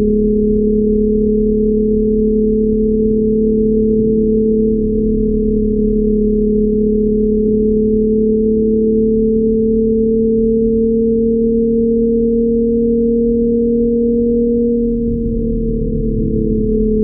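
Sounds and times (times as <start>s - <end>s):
car exhaust drone: 0.0s - 17.0s.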